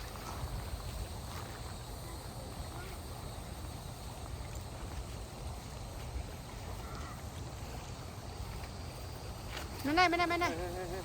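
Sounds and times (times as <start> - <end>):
flowing water: 0.0 - 9.4.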